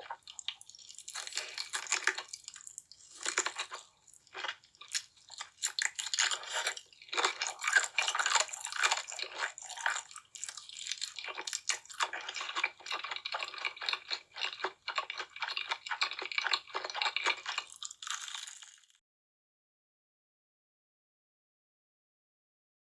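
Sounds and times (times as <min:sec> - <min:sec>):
wet chewing and crunching: 0:00.0 - 0:19.0.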